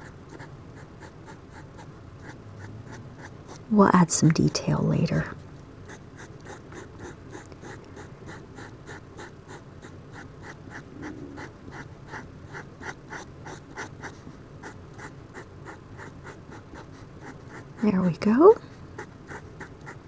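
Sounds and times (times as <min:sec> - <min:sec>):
marker scratching on paper: 0:00.0 - 0:03.7, 0:05.9 - 0:17.9, 0:19.0 - 0:20.0.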